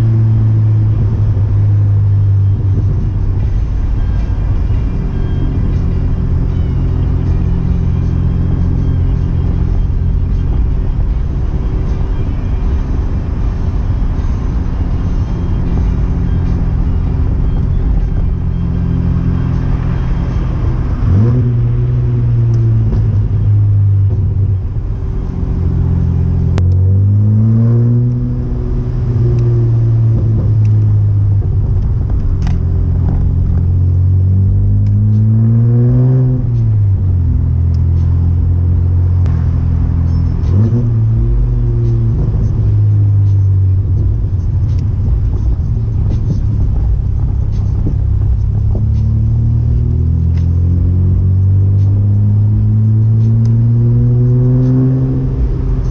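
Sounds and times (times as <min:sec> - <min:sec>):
car engine revving while driving: 0:00.0 - 0:55.9.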